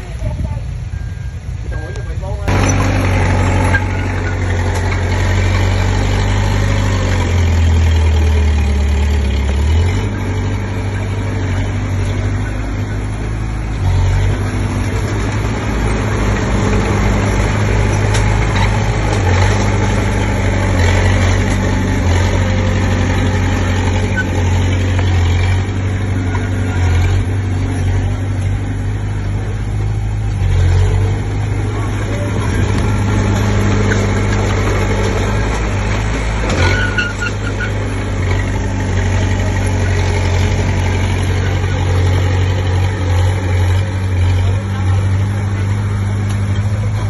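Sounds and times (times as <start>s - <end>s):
bulldozer diesel engine droning: 0.0s - 47.0s.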